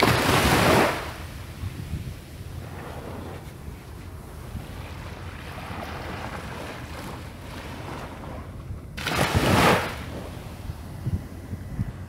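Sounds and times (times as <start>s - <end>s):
small waves lapping on beach: 0.0s - 12.0s
wind rumbling on microphone: 0.0s - 12.0s.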